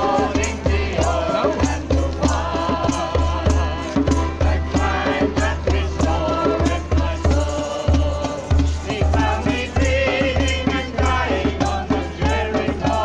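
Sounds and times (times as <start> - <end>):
light percussion: 0.0 - 13.0
voices singing a hymn: 0.0 - 13.0.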